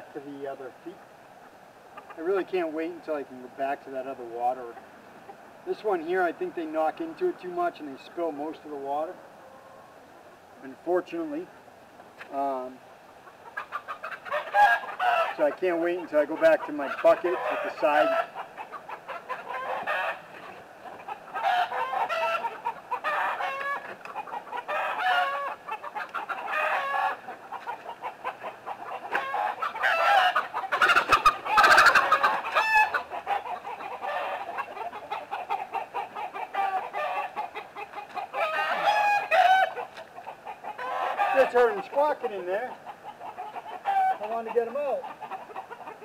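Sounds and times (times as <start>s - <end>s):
hens clucking and squawking: 0.0s - 46.0s.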